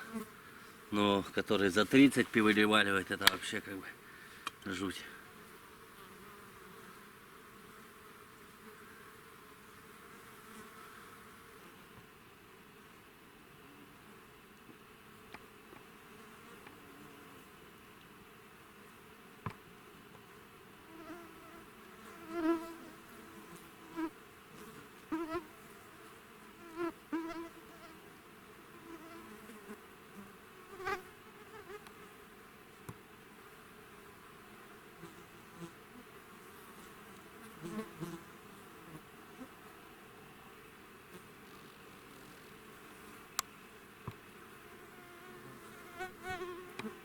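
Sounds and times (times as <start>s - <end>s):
flies buzzing past: 0.0s - 47.0s.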